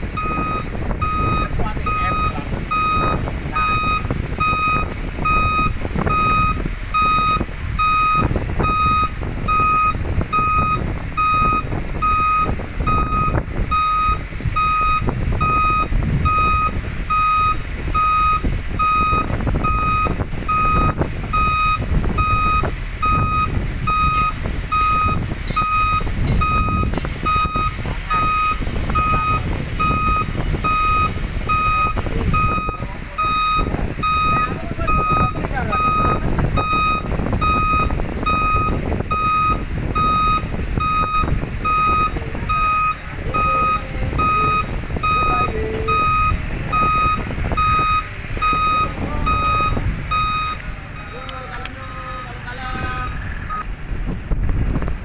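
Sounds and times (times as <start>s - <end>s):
truck reversing alarm beeping: 0.0s - 53.7s
truck engine rumble: 0.0s - 55.0s.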